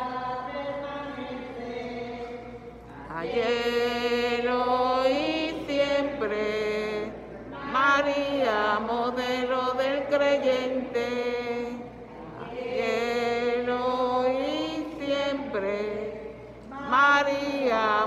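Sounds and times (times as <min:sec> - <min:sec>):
person singing a slow hymn: 0:00.0 - 0:18.0.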